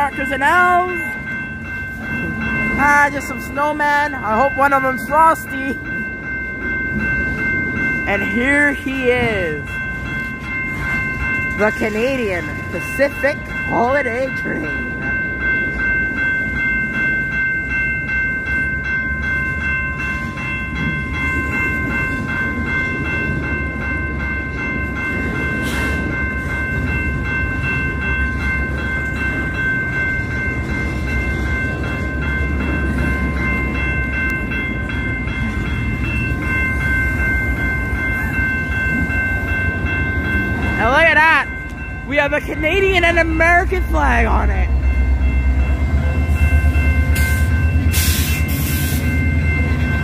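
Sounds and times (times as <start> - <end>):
level crossing bell ringing: 0.0 - 50.0
train wheels rumbling on rails: 0.0 - 50.0.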